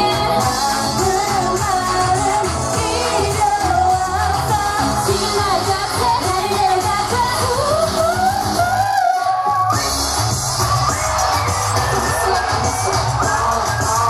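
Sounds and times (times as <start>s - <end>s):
pop music over sound system: 0.0s - 14.0s.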